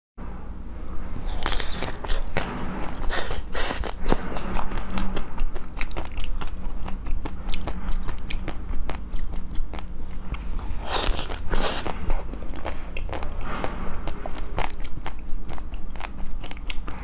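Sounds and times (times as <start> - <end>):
steady low hum: 0.2 - 17.0
biting and chewing: 1.2 - 17.0.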